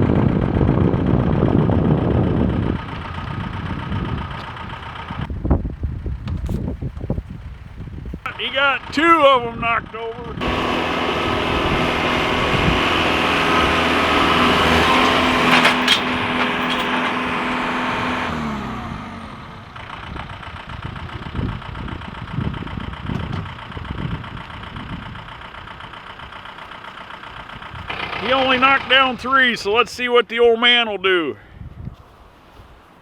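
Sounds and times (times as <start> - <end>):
tractor engine running: 0.0 - 30.1.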